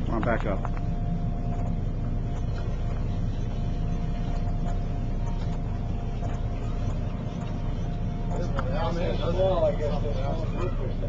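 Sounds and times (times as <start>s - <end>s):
boat engine droning: 0.0s - 11.0s
faint steady whine: 0.0s - 11.0s.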